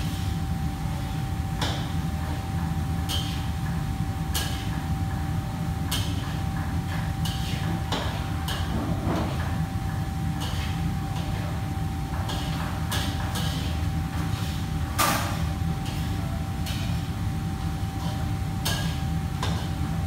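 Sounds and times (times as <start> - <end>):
machinery hum with thin whine: 0.0 - 20.0.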